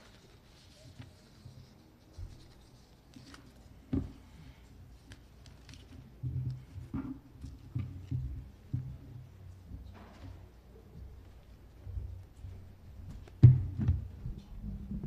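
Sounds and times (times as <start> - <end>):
rustles and knocks of people moving: 0.0 - 15.0.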